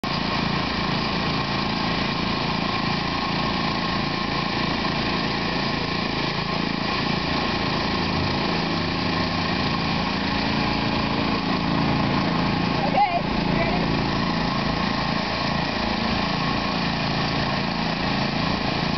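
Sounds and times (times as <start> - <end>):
generator engine running: 0.0 - 18.9.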